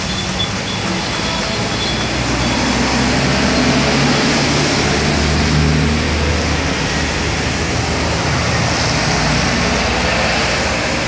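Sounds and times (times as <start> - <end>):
traffic hiss on wet road: 0.0 - 11.0
vehicle engine hum: 0.0 - 11.0.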